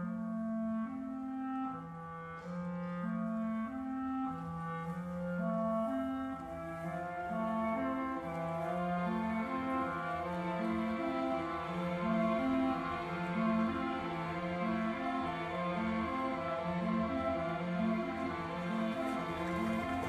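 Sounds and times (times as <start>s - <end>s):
orchestral ballet music: 0.0s - 20.0s
wind instruments holding long notes: 0.0s - 20.0s.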